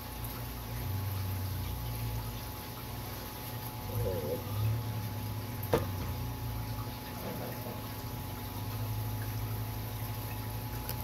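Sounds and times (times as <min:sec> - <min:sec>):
bubbling water: 0:00.0 - 0:11.0
low pump hum: 0:00.0 - 0:11.0.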